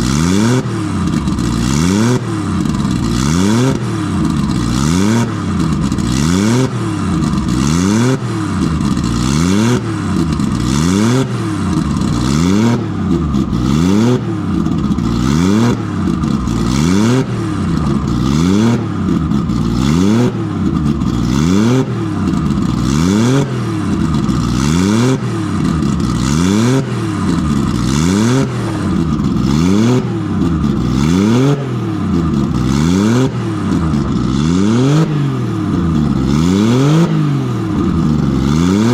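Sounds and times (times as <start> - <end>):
engine free-revving in blips: 0.0 - 38.9.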